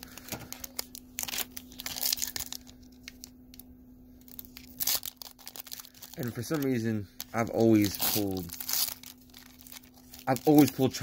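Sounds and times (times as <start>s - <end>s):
foil wrapper tearing: 0.0s - 3.6s, 4.2s - 11.0s
faint steady hum: 0.0s - 11.0s
foil wrapper crinkling: 0.0s - 11.0s.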